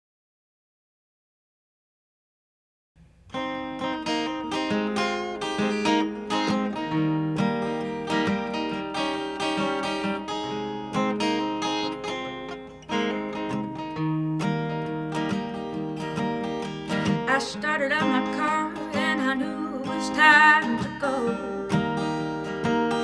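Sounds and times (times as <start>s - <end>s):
acoustic guitar strumming: 3.0s - 23.0s.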